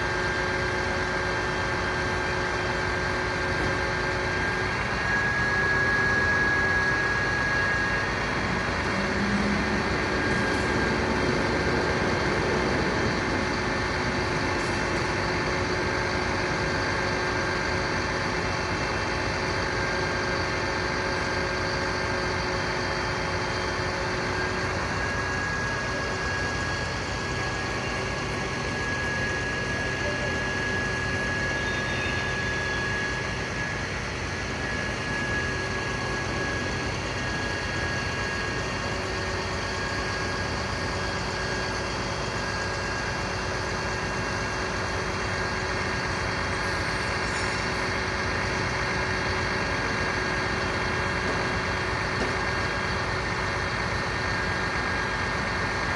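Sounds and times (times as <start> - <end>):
diesel engine idling: 0.0 - 55.9
thin steady whine: 0.0 - 55.9.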